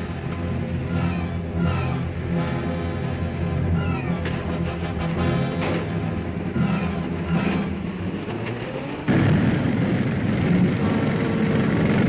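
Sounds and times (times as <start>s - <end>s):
music: 0.0s - 12.0s
tracked vehicle engine and track noise: 0.0s - 12.0s.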